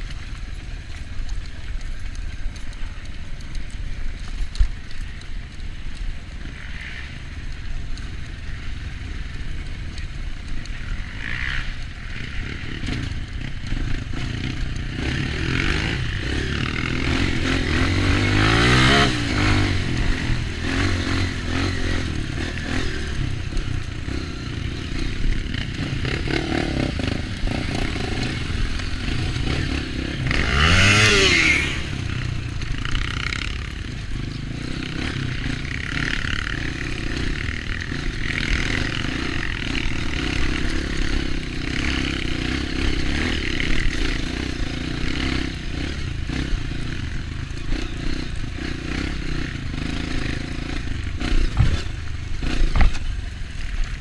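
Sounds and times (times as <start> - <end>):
dirt bike engine revving: 10.5 - 54.0.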